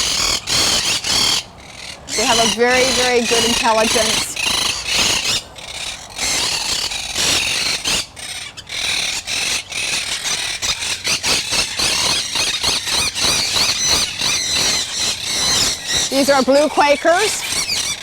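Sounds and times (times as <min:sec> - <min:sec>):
parrots chattering and screeching: 0:00.0 - 0:18.0.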